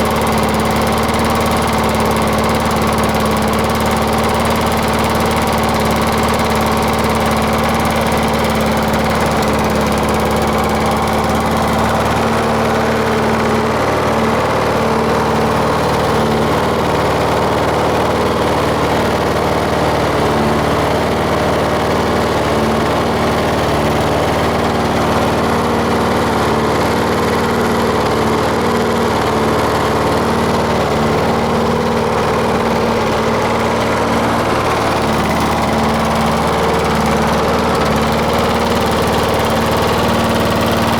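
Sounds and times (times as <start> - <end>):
lawnmower engine running: 0.0 - 40.9.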